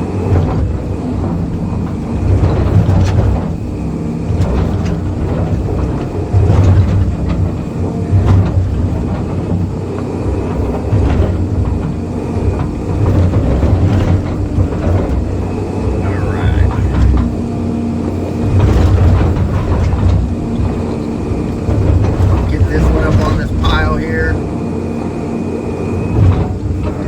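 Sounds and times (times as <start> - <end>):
excavator diesel engine surging: 0.0 - 27.0
sharp knocks and clanks: 0.3 - 24.4.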